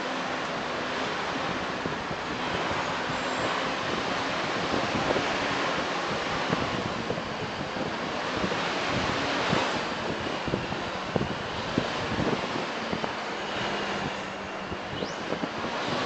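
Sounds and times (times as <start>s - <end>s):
bus road noise: 0.0s - 16.0s
wind buffeting microphone: 0.0s - 16.0s.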